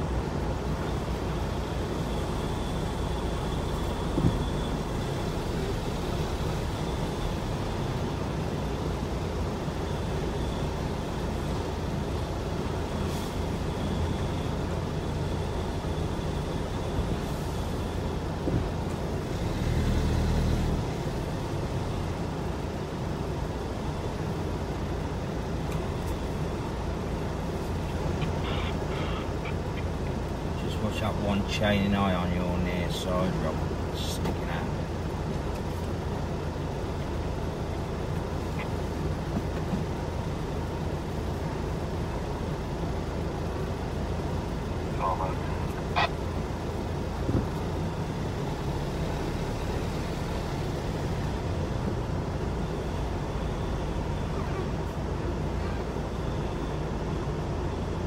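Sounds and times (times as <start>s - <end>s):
lorry diesel engine: 0.0s - 58.0s
vehicle engines rumbling: 0.0s - 58.0s.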